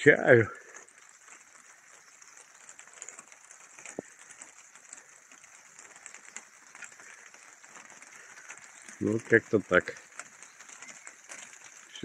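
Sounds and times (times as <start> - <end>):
steady high hiss: 0.0 - 12.0
distant birds chirping: 0.2 - 12.0.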